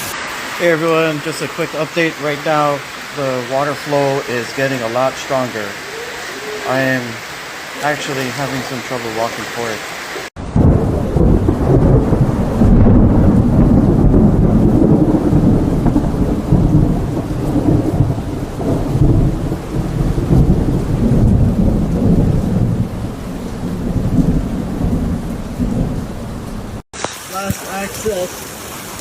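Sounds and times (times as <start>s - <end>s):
floodwater rushing: 0.0s - 29.0s
heavy rain: 0.0s - 29.0s.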